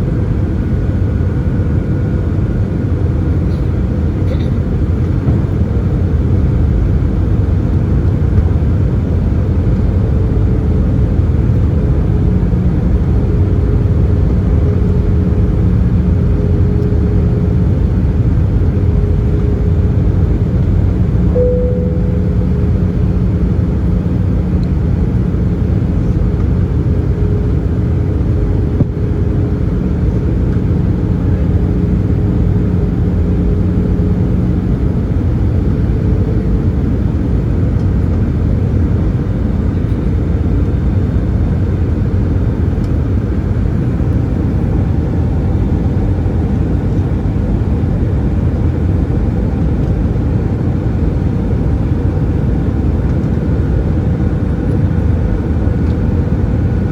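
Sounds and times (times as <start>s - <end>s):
low hum: 0.0s - 40.7s, 41.9s - 51.2s
jet engines droning: 0.0s - 56.9s
rush of air in airliner cabin: 0.0s - 56.9s.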